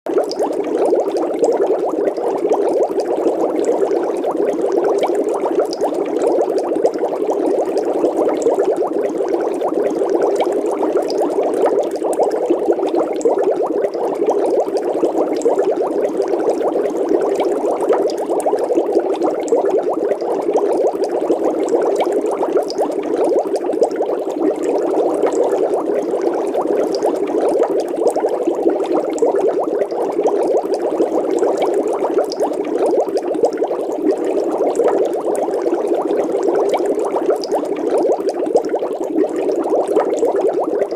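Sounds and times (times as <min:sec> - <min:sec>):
water bubbling: 0:00.1 - 0:40.9.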